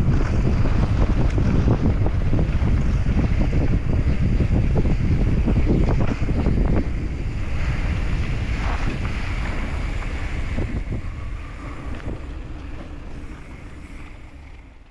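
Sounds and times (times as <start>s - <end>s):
bike clicks and rattles: 0.0s - 14.9s
tyres rumbling on dirt trail: 0.0s - 14.9s
wind buffeting microphone: 0.0s - 14.9s.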